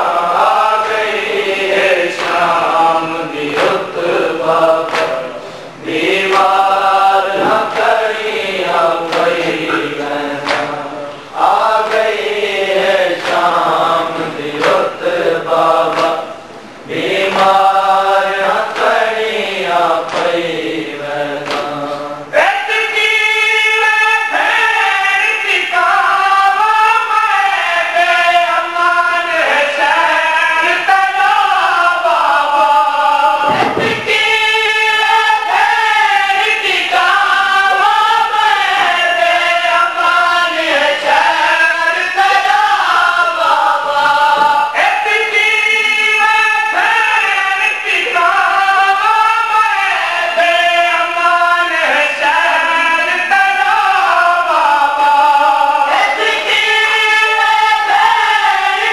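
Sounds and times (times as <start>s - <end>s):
men chanting a lament in chorus: 0.0s - 58.9s.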